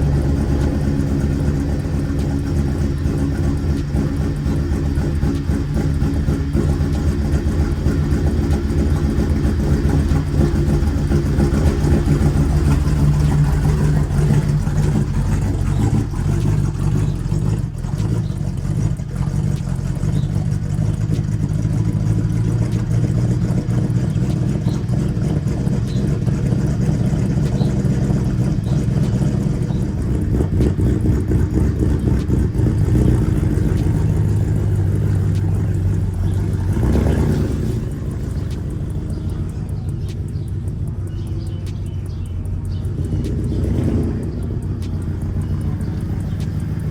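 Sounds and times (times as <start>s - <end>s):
car engine running with a miss: 0.0s - 46.9s.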